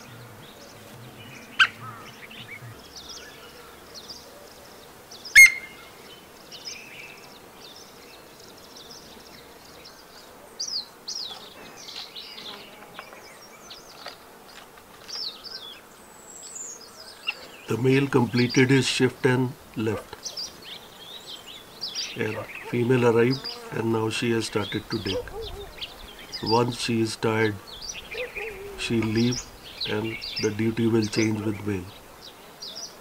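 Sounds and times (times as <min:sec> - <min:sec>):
small birds chirping and trilling: 0:00.0 - 0:33.0.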